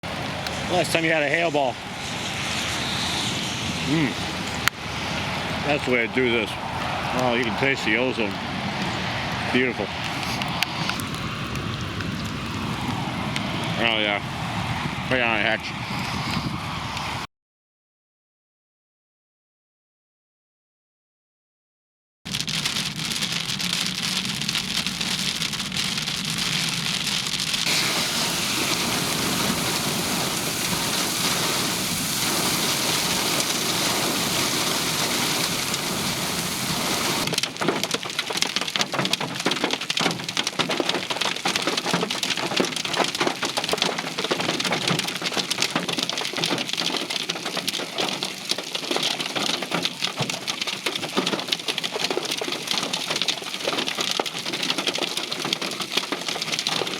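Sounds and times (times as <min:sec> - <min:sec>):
rain patter on hard surface: 0:00.0 - 0:02.6, 0:03.9 - 0:14.2, 0:22.3 - 0:56.9
heavy rain pouring: 0:00.0 - 0:14.7, 0:22.3 - 0:56.9.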